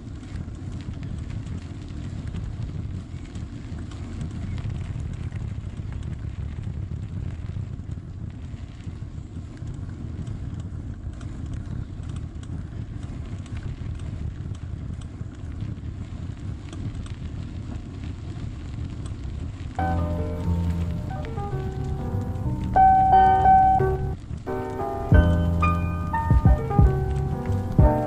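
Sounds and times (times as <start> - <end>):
small gravel clicks: 0.0 - 23.0
bicycle tyres rumbling on gravel: 0.0 - 28.0.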